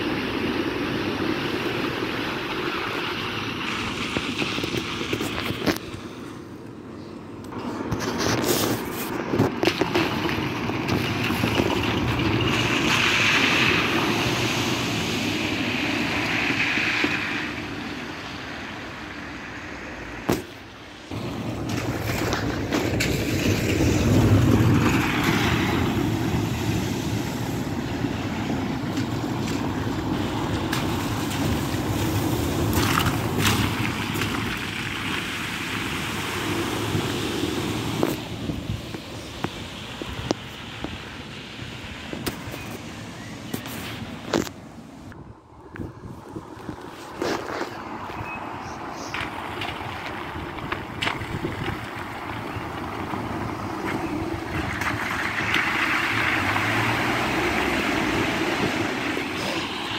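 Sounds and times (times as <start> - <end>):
tyres swishing through water: 0.0 - 6.5, 7.5 - 59.9.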